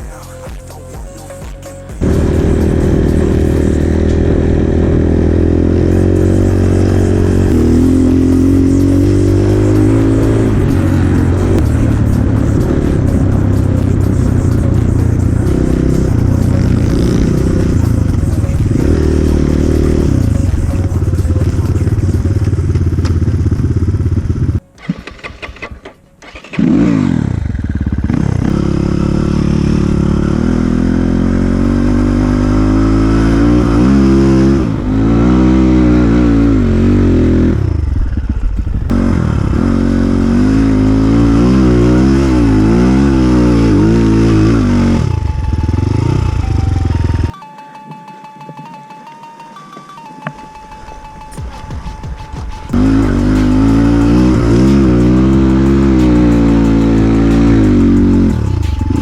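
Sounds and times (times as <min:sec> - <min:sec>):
dirt bike engine revving: 0:02.0 - 0:47.3, 0:50.8 - 0:59.0.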